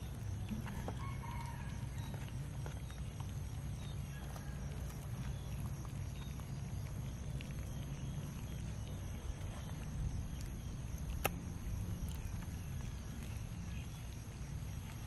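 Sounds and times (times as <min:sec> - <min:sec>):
cats chewing and smacking: 0:00.0 - 0:15.0
low steady rumble: 0:00.0 - 0:15.0.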